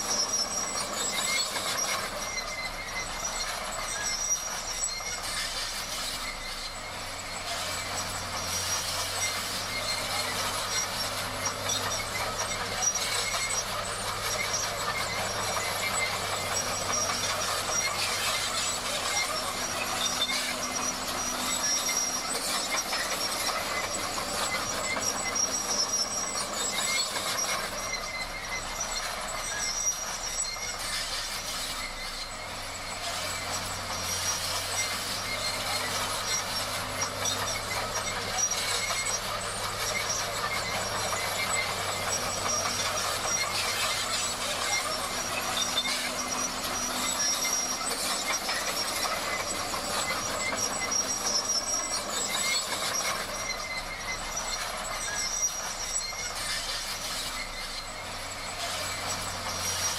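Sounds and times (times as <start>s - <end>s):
bulldozer engine: 0.0s - 59.9s
steel tracks clattering and squealing: 0.0s - 59.9s.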